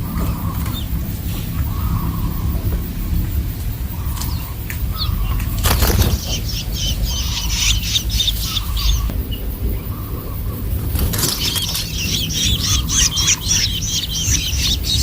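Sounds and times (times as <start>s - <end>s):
steady low rumble: 0.0s - 15.0s
young birds chirping: 0.0s - 15.0s.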